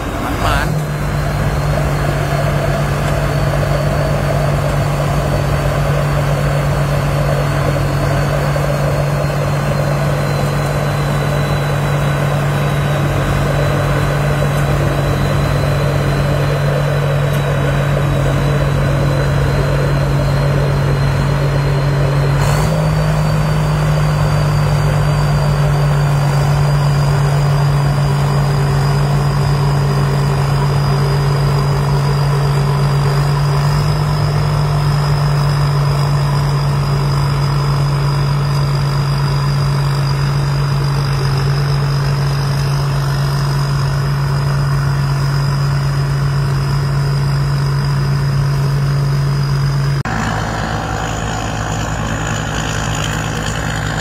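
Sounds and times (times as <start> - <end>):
combine harvester engine drone: 0.0 - 54.0
high whine: 0.0 - 54.0.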